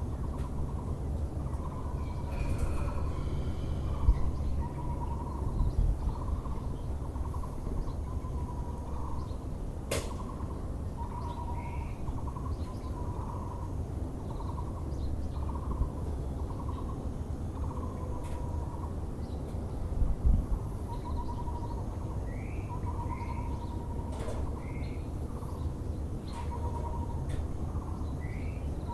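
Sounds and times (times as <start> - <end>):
low background rumble: 0.0 - 28.9.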